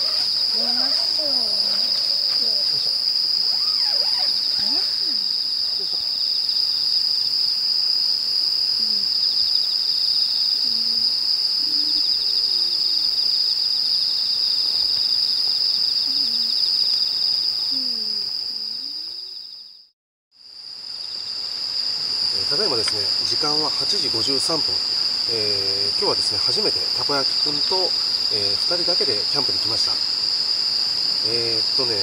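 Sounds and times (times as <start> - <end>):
night insects chirping: 0.0 - 32.0.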